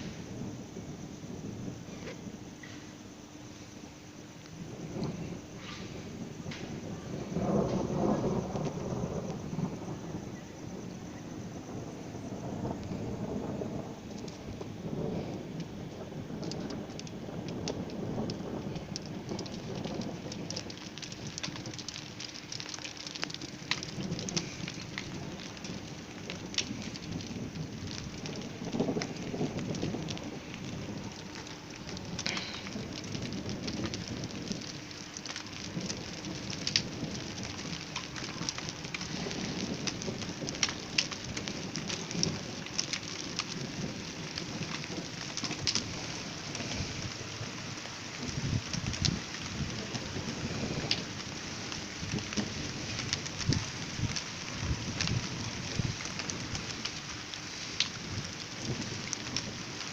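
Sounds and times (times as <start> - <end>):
rain falling: 0.0 - 59.9
raindrops ticking on a surface: 0.0 - 59.9
rolling thunder: 0.0 - 59.9.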